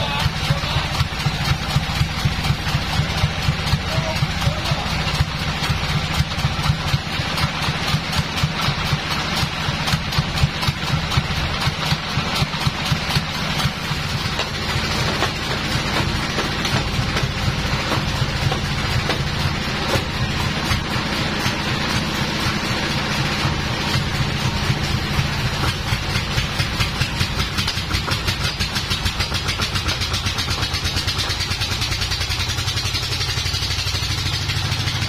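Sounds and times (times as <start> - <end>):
sawmill engine idling: 0.0 - 35.0.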